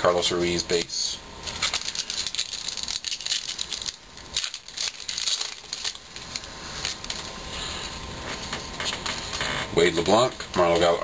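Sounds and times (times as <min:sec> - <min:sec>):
foil wrapper crinkling: 0:01.4 - 0:11.0.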